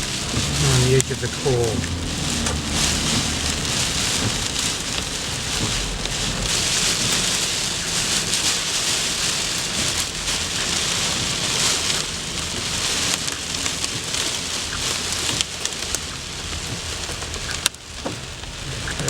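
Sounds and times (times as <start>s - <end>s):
heavy rain pelting down: 0.0s - 19.0s
small hail ticking: 0.0s - 19.0s.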